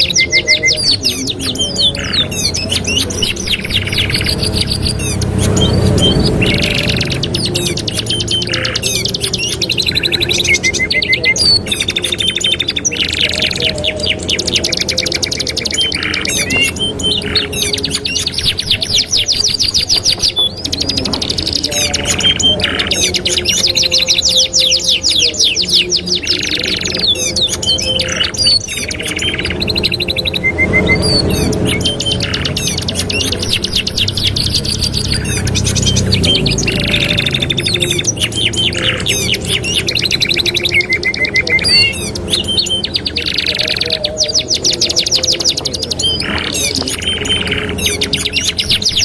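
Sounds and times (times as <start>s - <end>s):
canaries singing trills: 0.0s - 49.0s.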